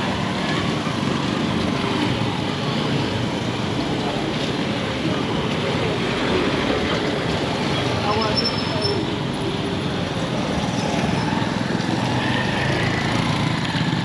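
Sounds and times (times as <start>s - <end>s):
vehicles passing: 0.0s - 14.0s.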